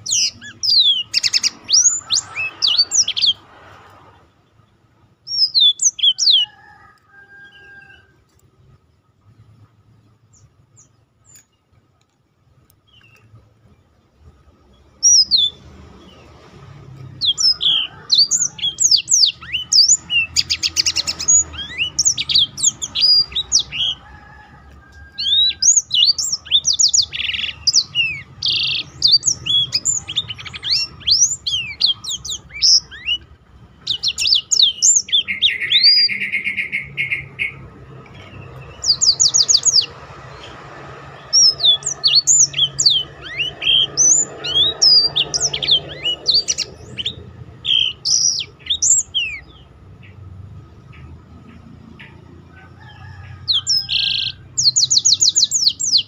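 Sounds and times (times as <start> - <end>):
canary singing chirps and trills: 0.0 - 56.0.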